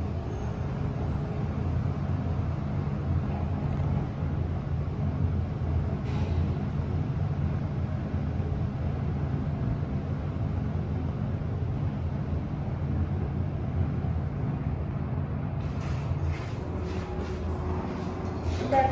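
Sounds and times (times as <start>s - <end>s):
lift car humming and rumbling: 0.0s - 18.9s.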